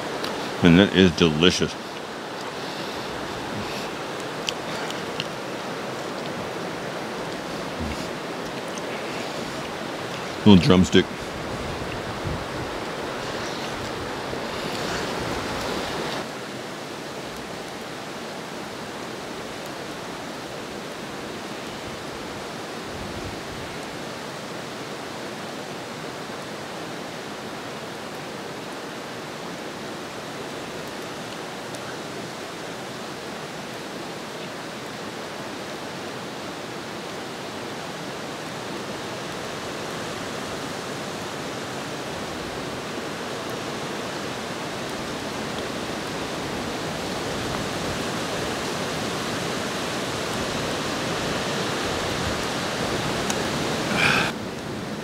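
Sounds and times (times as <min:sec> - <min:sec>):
mountain river rushing: 0:00.0 - 0:55.0.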